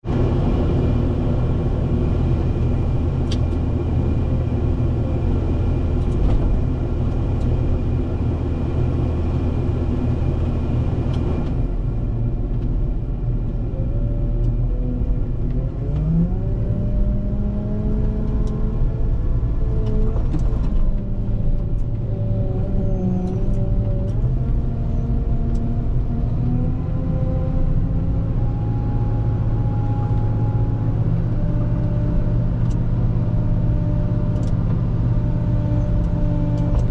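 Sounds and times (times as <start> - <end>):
diesel engine running: 0.0 - 36.9
engine whining tones: 0.0 - 36.9.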